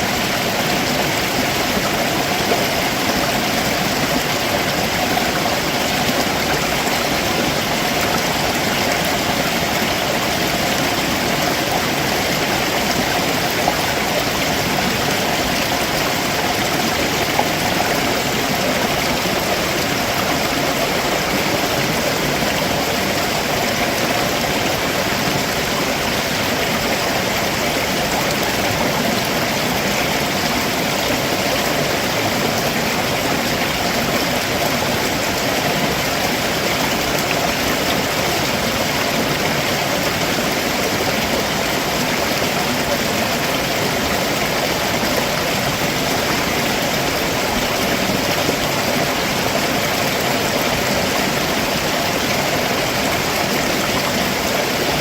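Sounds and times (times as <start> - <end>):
stream water rushing over rocks: 0.0 - 55.0.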